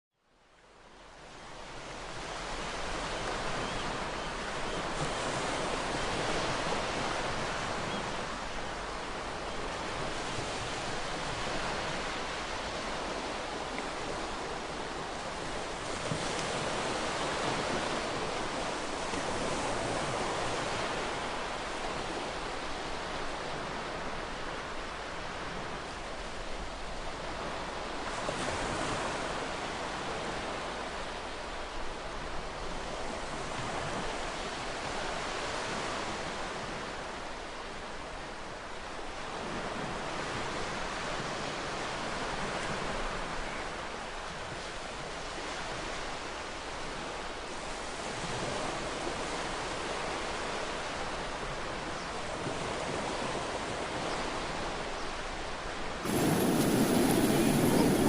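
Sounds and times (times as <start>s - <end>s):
sea waves breaking on beach: 1.8s - 37.2s, 39.0s - 58.0s.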